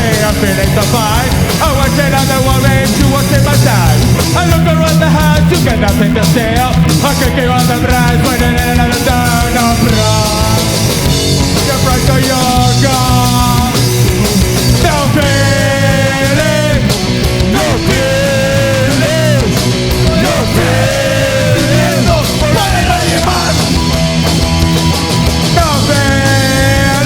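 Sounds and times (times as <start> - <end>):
bending lead guitar notes: 0.0 - 27.0
punk rock band playing: 0.0 - 27.0.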